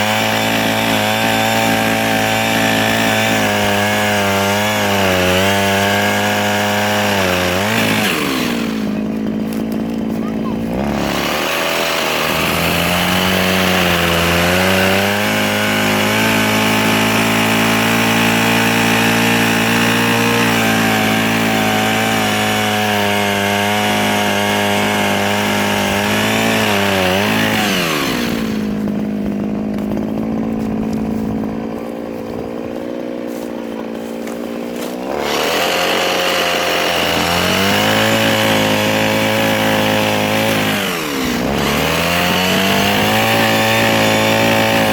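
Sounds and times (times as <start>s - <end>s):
chainsaw cutting wood hiss: 0.0s - 44.9s
mini chainsaw running: 0.0s - 44.9s.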